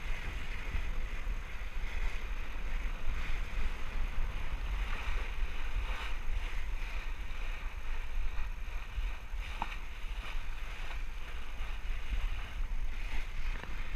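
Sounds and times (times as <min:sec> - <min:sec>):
water rushing along hull: 0:00.0 - 0:13.9
wind buffeting microphone: 0:00.0 - 0:13.9.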